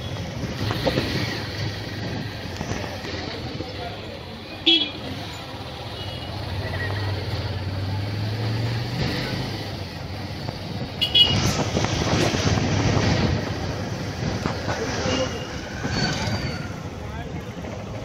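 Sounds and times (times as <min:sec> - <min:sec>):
street traffic with motorcycles: 0:00.0 - 0:18.0.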